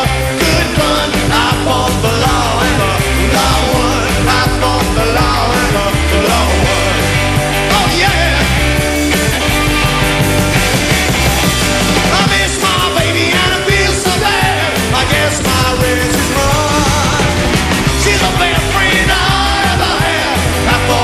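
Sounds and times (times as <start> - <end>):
drums: 0.0 - 21.0
electric guitar: 0.0 - 21.0
upright bass: 0.0 - 21.0.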